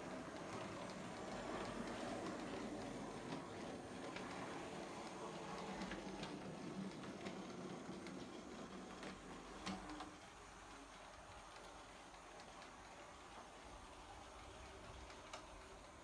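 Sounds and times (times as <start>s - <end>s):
model train motor hum: 0.0s - 16.0s
wheels clicking on rails: 0.0s - 16.0s.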